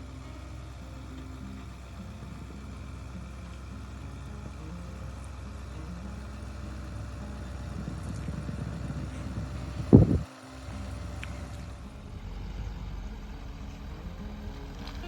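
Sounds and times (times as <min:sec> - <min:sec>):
vehicle low running rumble: 0:00.0 - 0:15.0.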